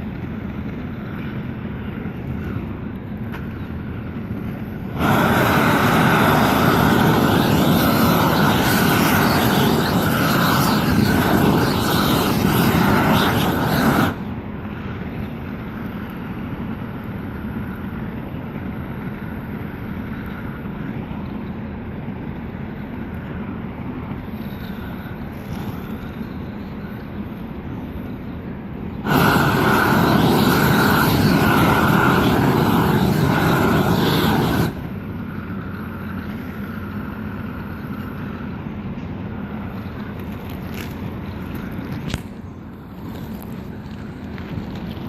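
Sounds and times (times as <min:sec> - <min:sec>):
quiet steady rumble: 0:00.0 - 0:45.0
roofing torch flame roaring: 0:00.0 - 0:45.0.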